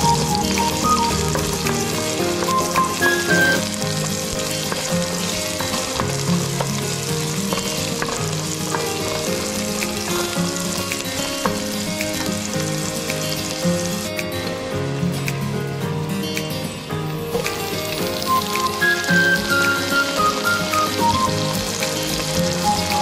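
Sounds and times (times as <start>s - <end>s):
vegetables sizzling in hot oil: 0.0s - 14.4s, 17.4s - 23.0s.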